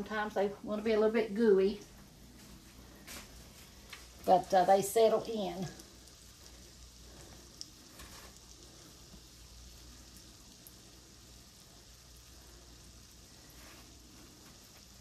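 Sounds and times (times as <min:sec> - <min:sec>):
dough frying in hot grease: 0:00.0 - 0:15.0.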